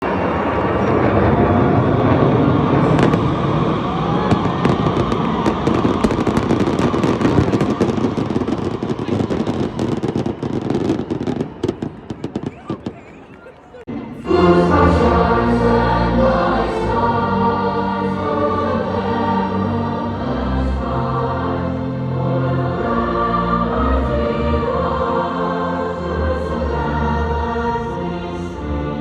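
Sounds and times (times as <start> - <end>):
choir singing held chords: 0.1 - 12.1, 13.8 - 29.0.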